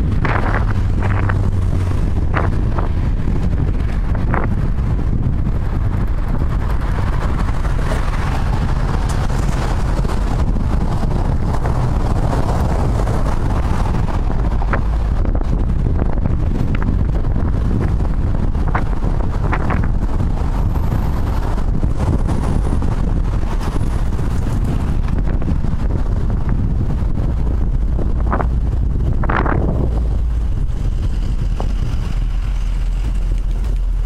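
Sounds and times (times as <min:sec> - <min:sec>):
highway traffic passing: 0:00.0 - 0:34.0
wind buffeting microphone: 0:00.0 - 0:34.0.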